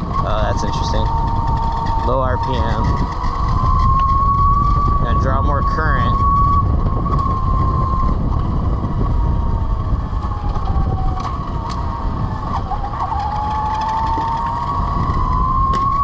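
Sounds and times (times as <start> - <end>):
electric motorcycle whine: 0.0 - 16.0
wind rumble on microphone: 0.0 - 16.0.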